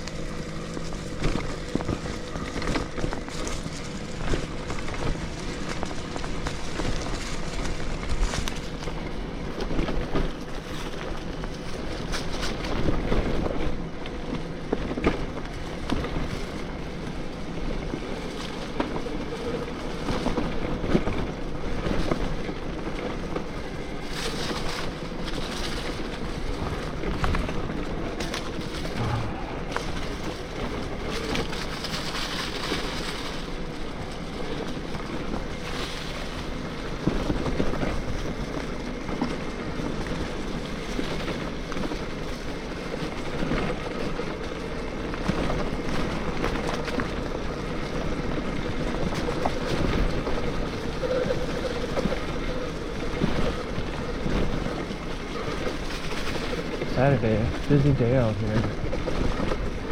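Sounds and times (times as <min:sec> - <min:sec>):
bike tyres rumbling: 0:00.0 - 0:59.9
faint steady whine: 0:00.0 - 0:59.9
wind buffeting microphone: 0:00.0 - 0:59.9.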